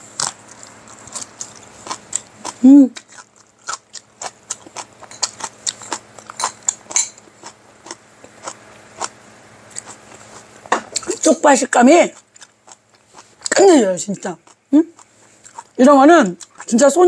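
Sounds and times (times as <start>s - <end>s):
person chewing crunchy food: 0.0s - 11.4s, 12.0s - 17.0s.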